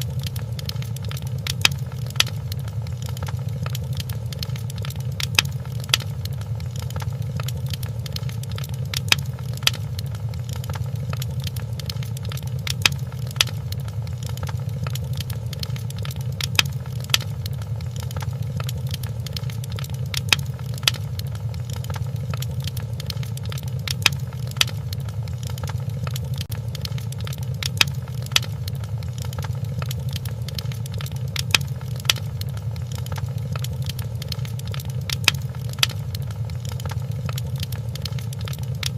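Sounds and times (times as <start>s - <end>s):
fire flames rumbling: 0.0s - 38.9s
wood fire popping: 0.0s - 38.9s.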